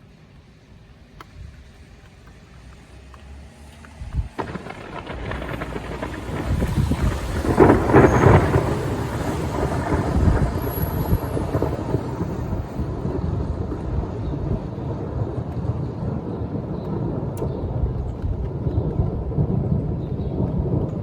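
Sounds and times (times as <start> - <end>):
thunder rumbling: 3.5 - 21.0.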